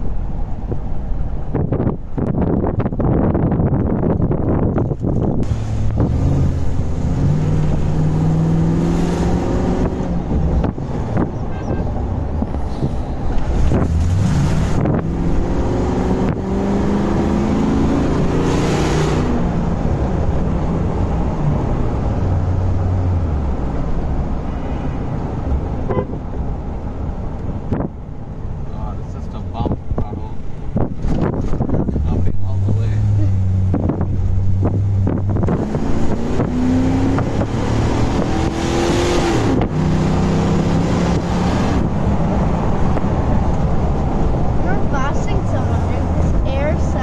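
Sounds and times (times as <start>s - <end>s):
car engine accelerating: 0.0s - 47.0s
rushes of air noise: 0.0s - 47.0s.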